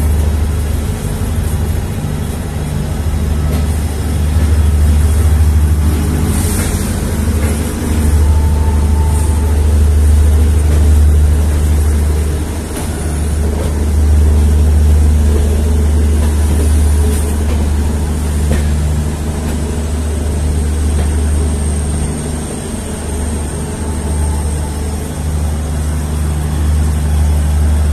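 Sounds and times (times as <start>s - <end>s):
diesel locomotive engine drone: 0.0s - 27.9s.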